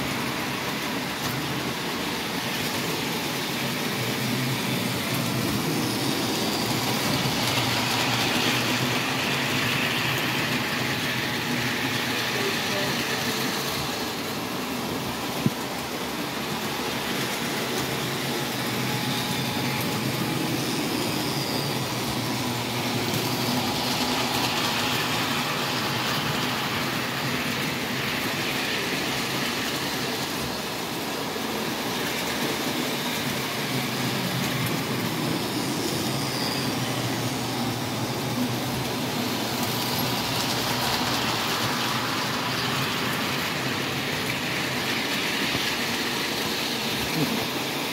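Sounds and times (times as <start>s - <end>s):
model trains rolling on metal track: 0.0s - 47.9s.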